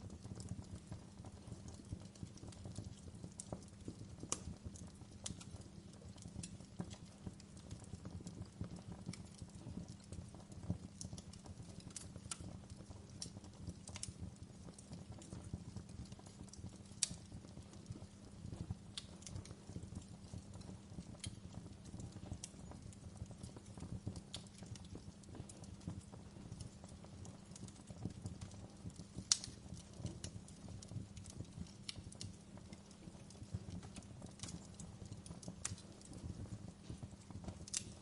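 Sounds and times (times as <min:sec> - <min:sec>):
fire crackles and pops: 0:00.0 - 0:38.0
low rumble of flames: 0:00.0 - 0:38.0.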